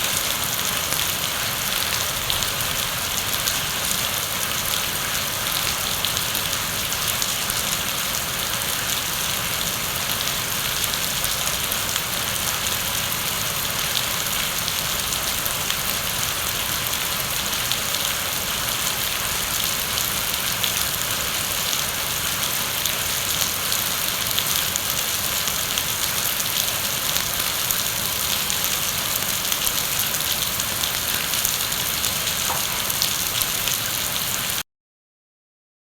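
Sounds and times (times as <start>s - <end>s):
heavy rain falling: 0.0s - 34.6s.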